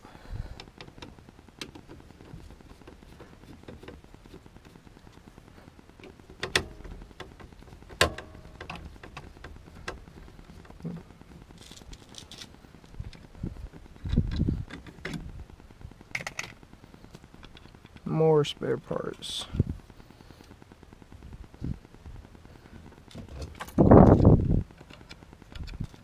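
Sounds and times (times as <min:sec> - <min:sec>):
low steady background hiss: 0:00.0 - 0:26.0.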